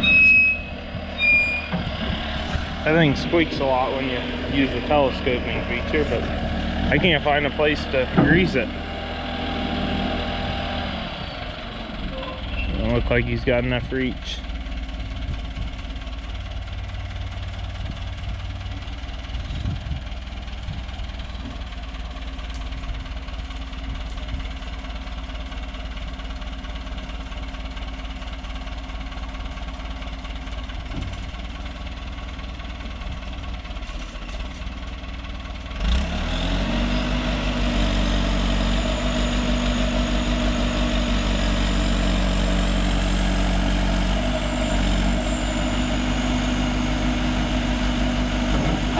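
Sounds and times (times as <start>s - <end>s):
backhoe engine running: 0.0s - 48.9s.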